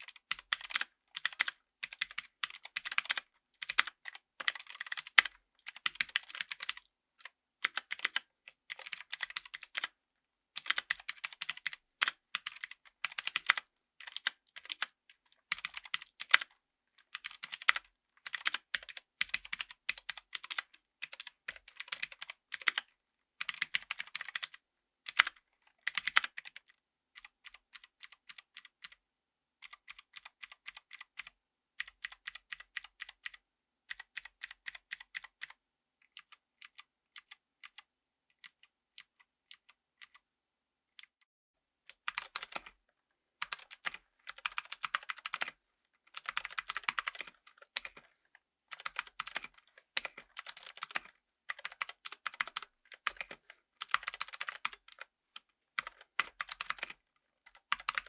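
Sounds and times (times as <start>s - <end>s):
mechanical keyboard clicky typing: 0.0s - 9.9s, 10.6s - 16.5s, 17.1s - 29.0s, 29.6s - 37.8s, 41.9s - 42.7s, 43.4s - 45.5s, 46.1s - 48.0s, 48.7s - 55.1s, 55.8s - 58.0s.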